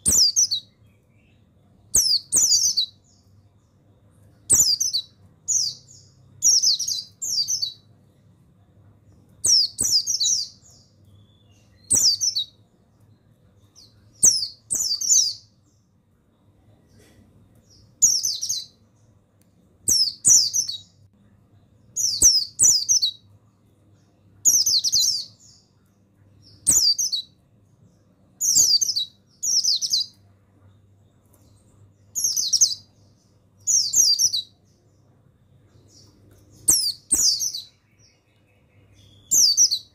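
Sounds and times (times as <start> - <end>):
bird twittering chirps: 0.0 - 7.9, 9.0 - 17.0, 17.6 - 19.2, 19.8 - 23.3, 23.9 - 39.9.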